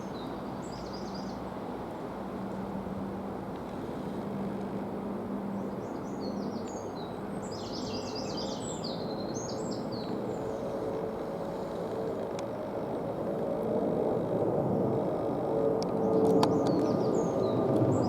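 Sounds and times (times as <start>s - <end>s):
distant jet airliner rumble: 0.0s - 18.0s.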